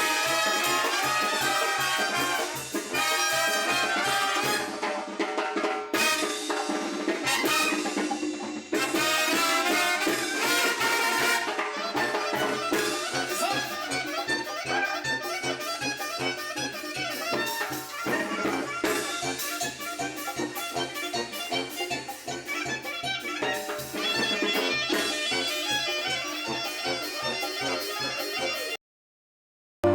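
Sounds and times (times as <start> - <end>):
brass band dance music: 0.0 - 28.8.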